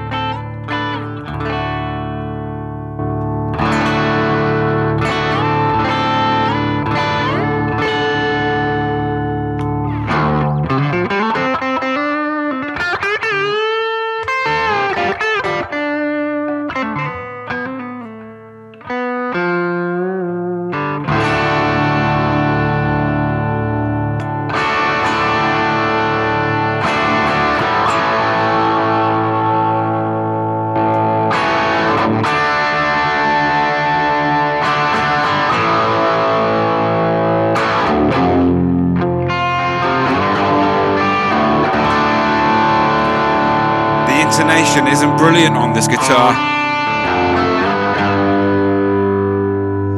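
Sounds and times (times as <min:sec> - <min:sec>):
electric guitar with string bends: 0:00.0 - 0:49.9
strummed electric guitar chords: 0:00.0 - 0:49.9.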